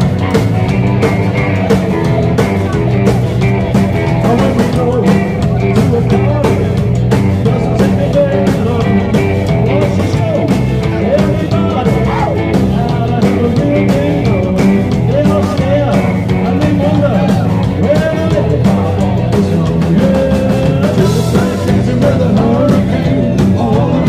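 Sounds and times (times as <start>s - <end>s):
drum kit beat: 0.0s - 24.0s
electric guitars: 0.0s - 24.0s.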